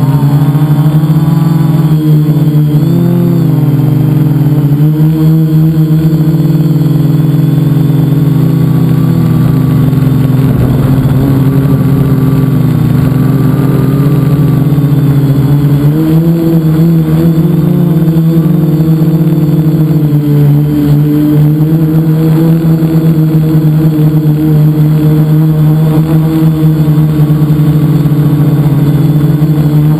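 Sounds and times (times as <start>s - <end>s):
drone propellers buzzing: 0.0s - 29.9s.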